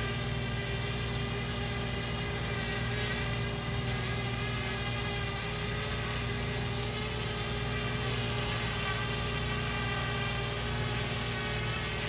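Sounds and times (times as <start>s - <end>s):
drone motors humming and whining: 0.0s - 12.0s.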